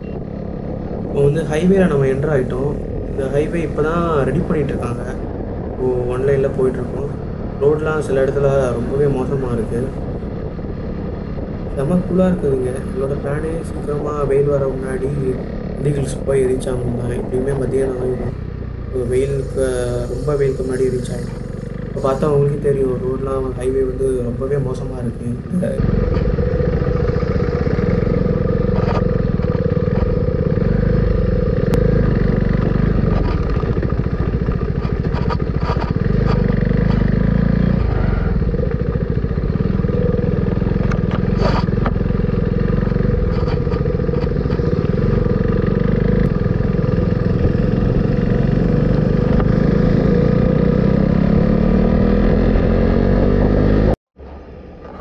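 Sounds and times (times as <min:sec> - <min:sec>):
motorcycle engine drone: 0:00.0 - 0:55.0
road noise: 0:00.0 - 0:55.0.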